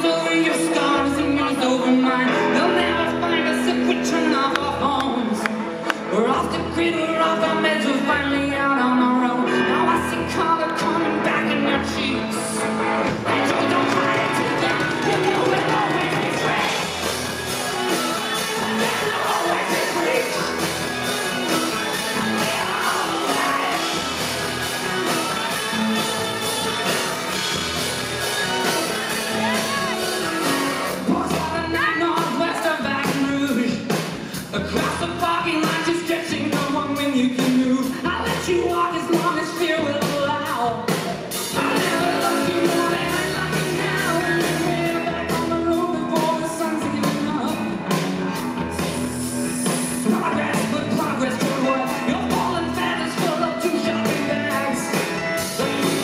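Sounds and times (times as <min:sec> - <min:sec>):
lead vocal singing: 0:00.0 - 0:56.0
rock band playing: 0:00.0 - 0:56.0.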